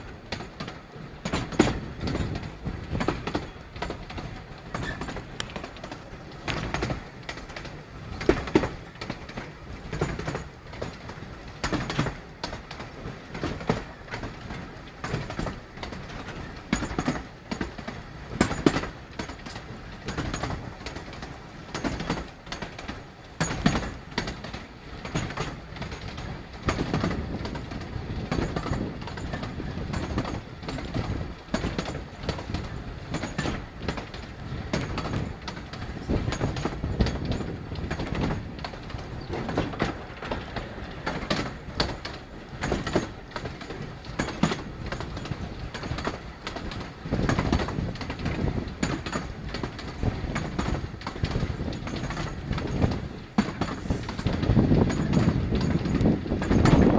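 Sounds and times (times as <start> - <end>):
train running rumble: 0.0 - 56.9
wheels clattering over rail joints: 0.0 - 56.9.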